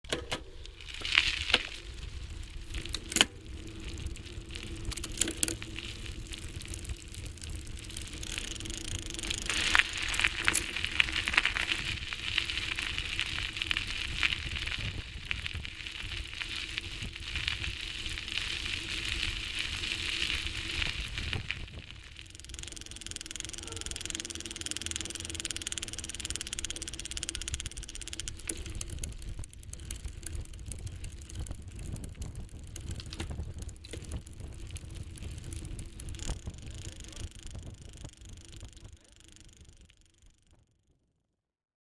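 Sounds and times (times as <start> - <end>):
bicycle rattling clicks: 0.1 - 40.6
bicycle tyres hissing: 0.6 - 39.7.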